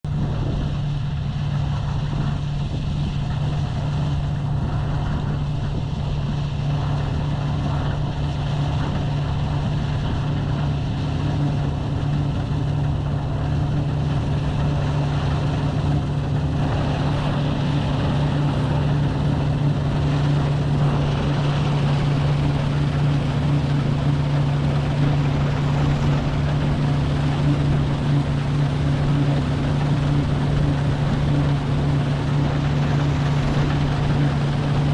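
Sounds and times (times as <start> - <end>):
combine harvester engine drone: 0.0 - 34.9.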